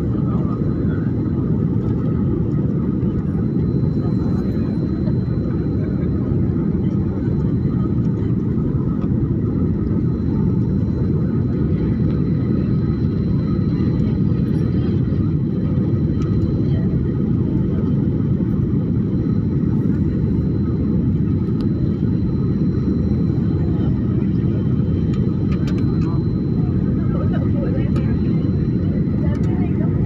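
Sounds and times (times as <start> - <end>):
jet engine rumble: 0.0 - 30.0.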